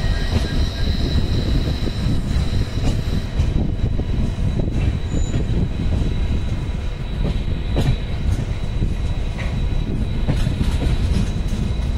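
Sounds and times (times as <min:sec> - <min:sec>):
train wheels rumbling on track: 0:00.0 - 0:11.9.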